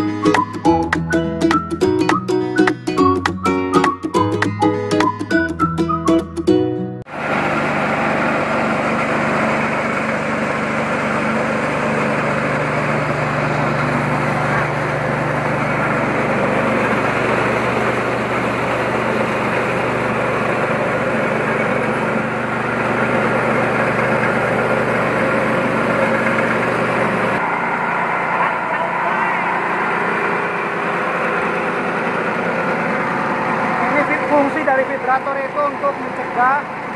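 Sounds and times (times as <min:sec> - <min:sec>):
engine hum: 0:00.0 - 0:36.9
rice huller milling noise: 0:07.1 - 0:36.9.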